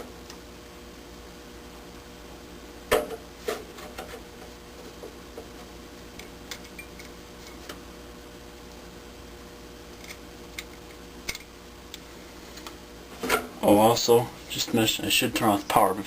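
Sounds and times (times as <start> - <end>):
steady hum with faint tone: 0.0 - 16.0.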